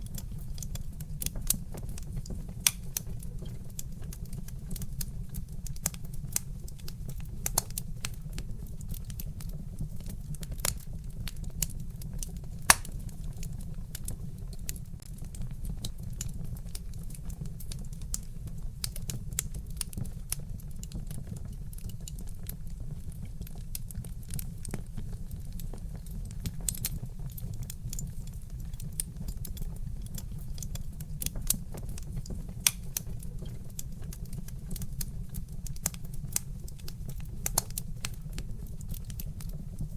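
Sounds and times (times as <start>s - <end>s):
burning logs popping and snapping: 0.0s - 39.9s.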